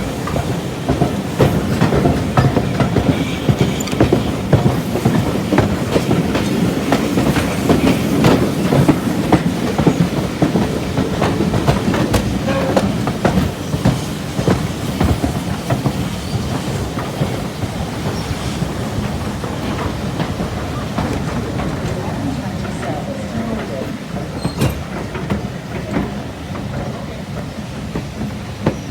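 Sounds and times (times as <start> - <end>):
railway carriage rumble: 0.0 - 28.9
wheels clicking over rails: 0.0 - 28.9.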